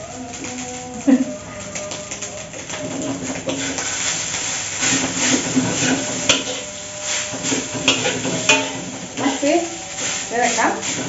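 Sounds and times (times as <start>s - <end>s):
rice sizzling in a pan: 0.0s - 11.0s
spatula scraping and knocking pan: 1.8s - 11.0s.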